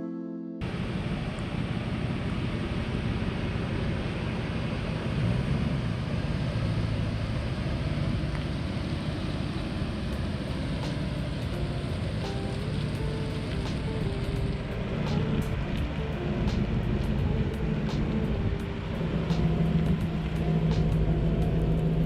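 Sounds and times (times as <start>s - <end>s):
car engine: 0.6s - 22.0s
road noise: 0.6s - 22.0s.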